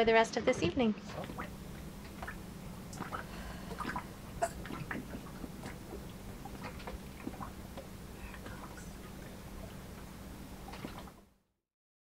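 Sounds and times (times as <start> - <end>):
faint low hum: 0.0 - 11.3
water lapping softly: 1.0 - 11.2
water plinks and splashes: 1.0 - 11.2.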